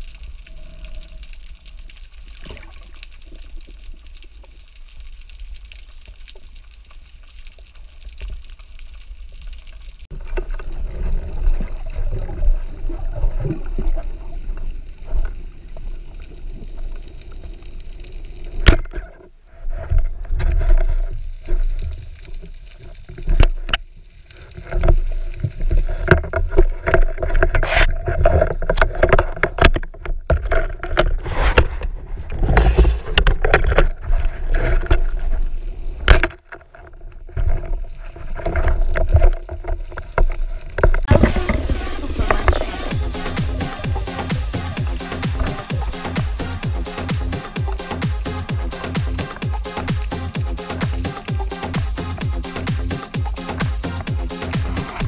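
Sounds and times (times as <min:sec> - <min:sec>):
underwater water rush: 0:00.0 - 0:36.3, 0:37.0 - 0:55.0.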